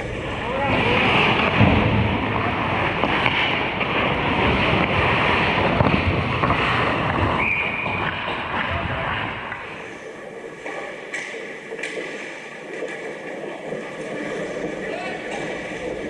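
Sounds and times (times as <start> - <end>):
skates on ice: 0.2 - 16.0
hockey stick clacks: 1.4 - 10.0, 10.6 - 16.0.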